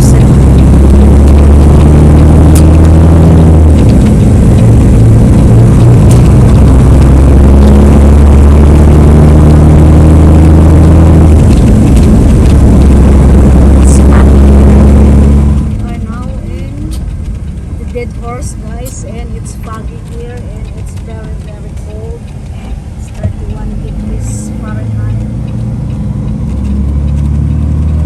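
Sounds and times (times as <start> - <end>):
truck diesel engine droning: 0.0 - 28.0.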